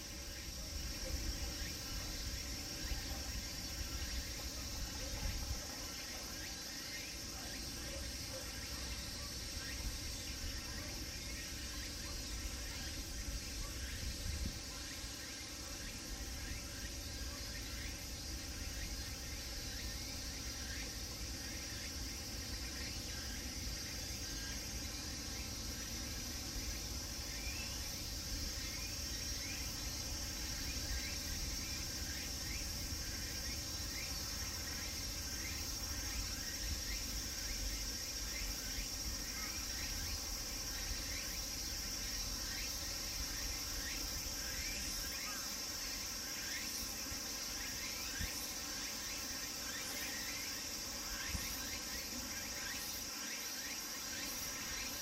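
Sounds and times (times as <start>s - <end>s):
cicadas chorusing: 0.0s - 55.0s.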